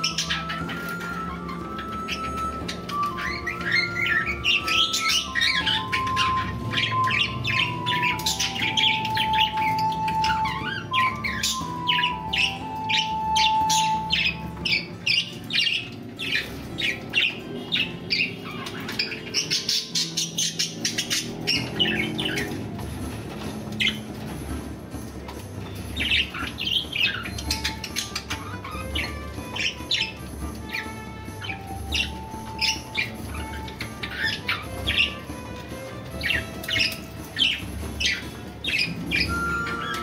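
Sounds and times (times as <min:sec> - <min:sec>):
budgerigars chirping: 0:00.0 - 0:40.0.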